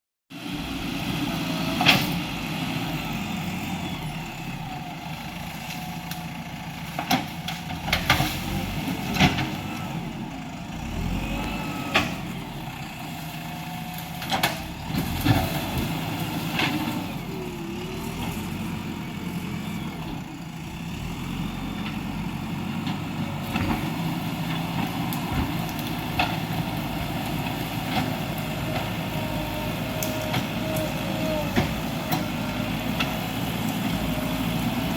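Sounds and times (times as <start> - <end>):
diesel engine running: 0.3 - 34.9.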